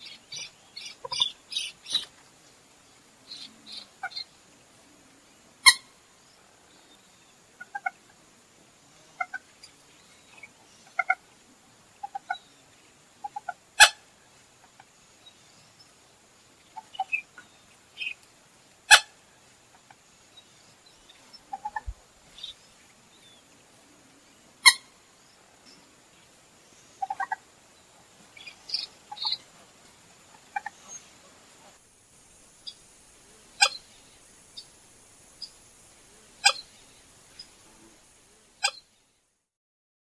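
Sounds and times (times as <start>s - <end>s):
moorhen clucking calls: 0.0s - 2.2s, 3.1s - 26.2s, 26.8s - 31.8s, 32.6s - 34.8s, 35.4s - 38.9s.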